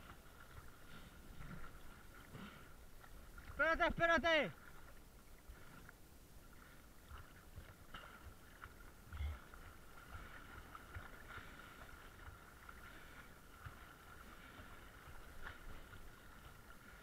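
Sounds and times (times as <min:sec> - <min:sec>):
muffled water sloshing: 0:00.0 - 0:17.0.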